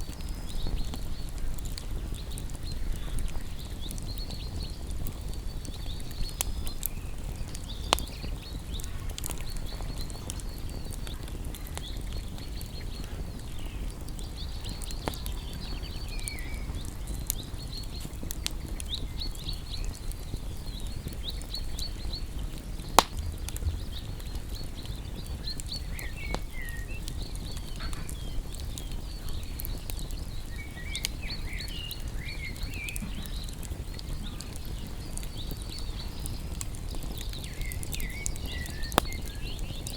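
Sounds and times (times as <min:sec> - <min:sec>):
birds chirping: 0:00.0 - 0:39.9
campfire crackling: 0:00.0 - 0:39.9.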